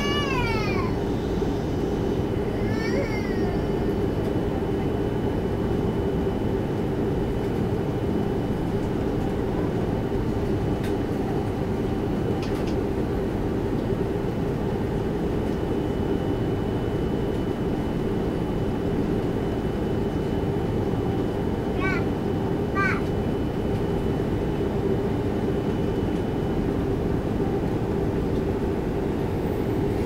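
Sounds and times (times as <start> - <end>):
airliner cabin engine rumble: 0.0 - 30.0.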